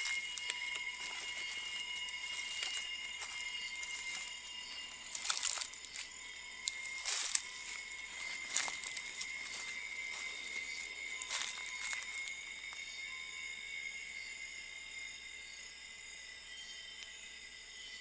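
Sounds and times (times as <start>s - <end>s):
steady high-pitched tones: 0.0s - 18.0s.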